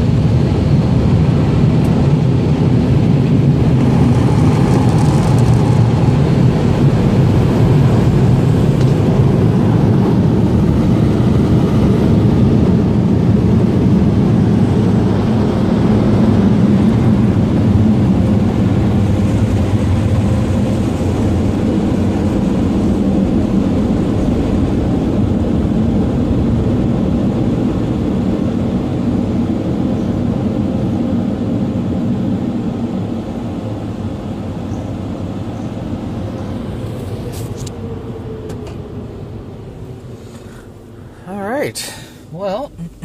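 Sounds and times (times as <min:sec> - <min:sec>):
car wash air dryers blowing: 0:00.0 - 0:43.0.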